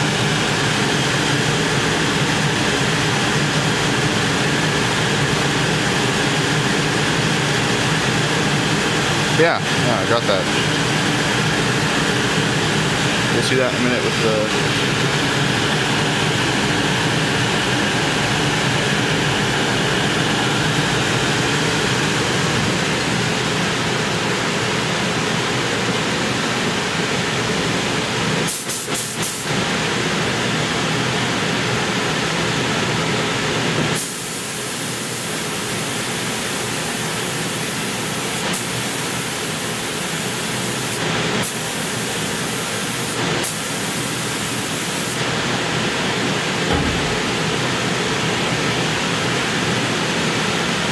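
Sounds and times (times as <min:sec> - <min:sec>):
exhaust hood fan running: 0:00.0 - 0:50.9.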